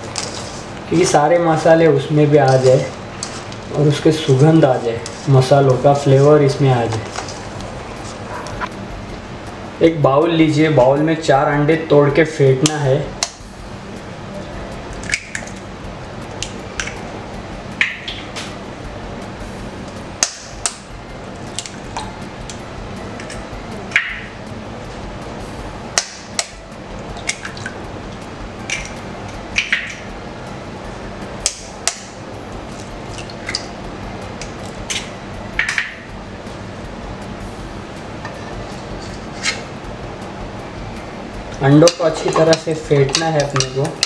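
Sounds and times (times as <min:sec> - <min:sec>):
steady background hiss: 0:00.0 - 0:44.0.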